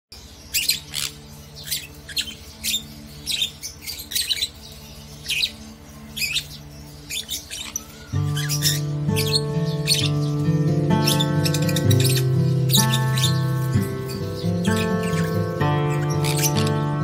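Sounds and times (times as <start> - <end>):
parrots squawking: 0.4 - 17.0.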